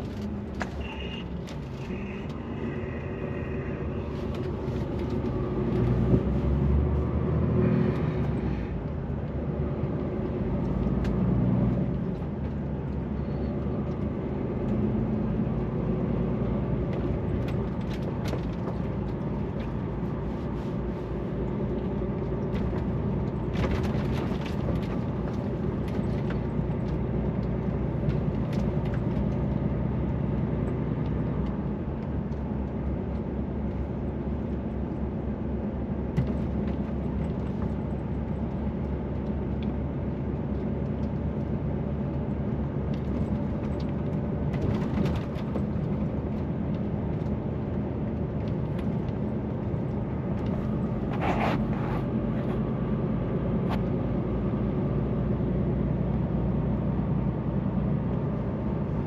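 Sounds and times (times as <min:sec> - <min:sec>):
diesel truck engine running: 0:00.0 - 0:59.0
road noise: 0:00.0 - 0:59.0.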